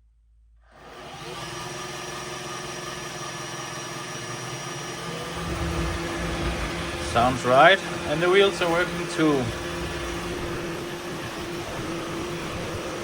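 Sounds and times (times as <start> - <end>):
robot vacuum whirring: 0.7 - 13.0.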